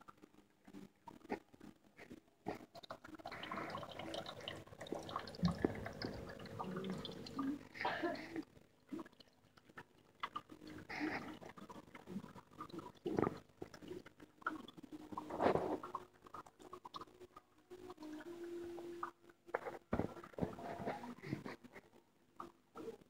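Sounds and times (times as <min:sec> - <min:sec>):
faint steady hum: 0:00.0 - 0:23.0
water gurgling and trickling: 0:00.1 - 0:23.0.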